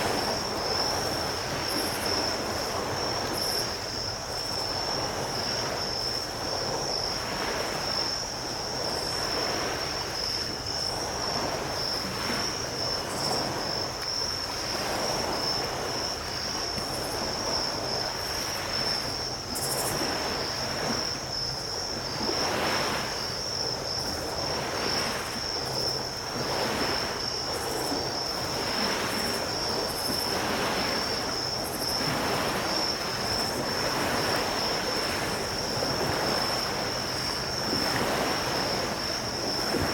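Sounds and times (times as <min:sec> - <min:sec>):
insects chirring: 0:00.0 - 0:39.9
small waves breaking: 0:00.0 - 0:39.9.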